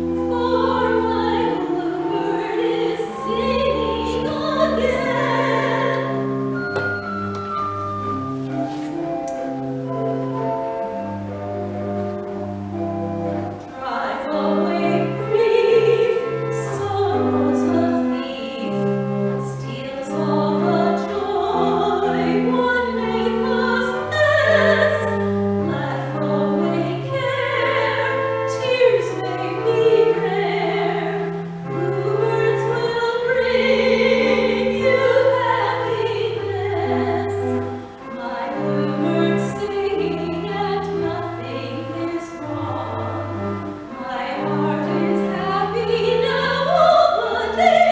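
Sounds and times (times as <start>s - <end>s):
organ playing chords: 0.0s - 47.9s
woman singing operatically: 0.2s - 6.2s, 13.8s - 37.5s, 38.1s - 43.3s, 44.0s - 47.9s.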